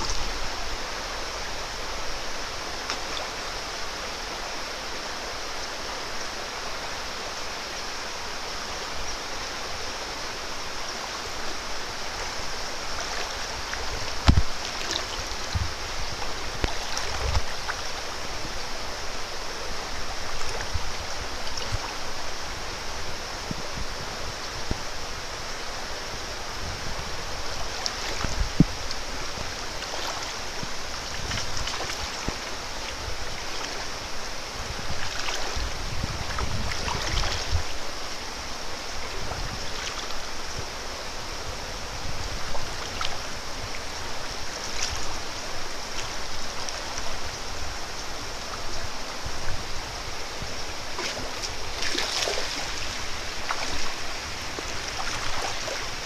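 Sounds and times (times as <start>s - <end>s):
stream babbling over gravel: 0.0s - 56.0s.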